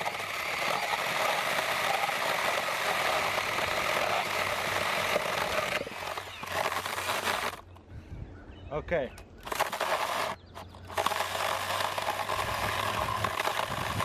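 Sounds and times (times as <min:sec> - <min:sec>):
chainsaw cutting through wood: 0:00.0 - 0:07.7, 0:09.4 - 0:14.0.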